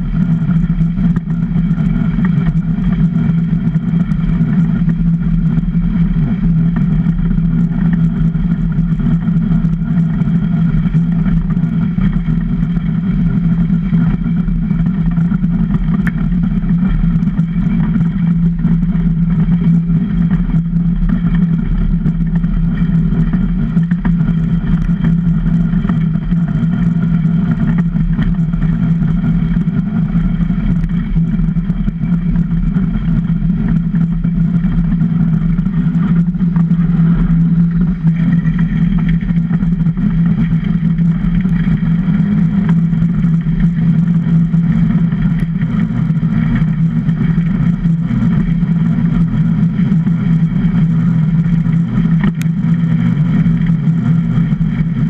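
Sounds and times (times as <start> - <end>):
ice boat runners on ice: 0.0 - 55.0.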